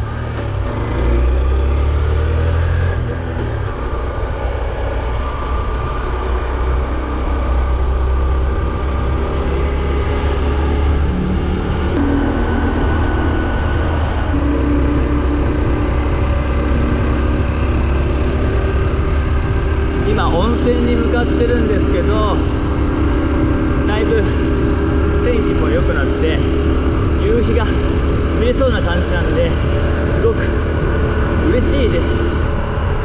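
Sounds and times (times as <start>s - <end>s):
motorcycle engine running: 0.0s - 33.0s
wind rumble on microphone: 2.9s - 33.0s.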